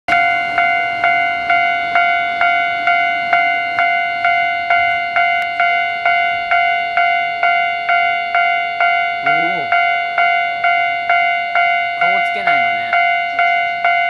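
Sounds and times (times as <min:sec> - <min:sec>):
level crossing warning bell ringing: 0:00.1 - 0:14.0.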